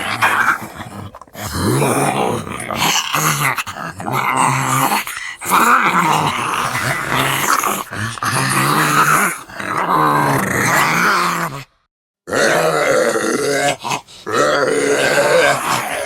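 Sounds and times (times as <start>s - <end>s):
dog growling and snarling: 0.0s - 16.0s.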